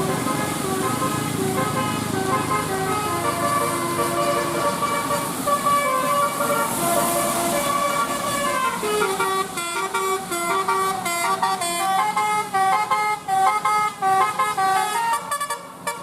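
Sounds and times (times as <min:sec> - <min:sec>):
bus horn playing tune: 0:00.0 - 0:16.0.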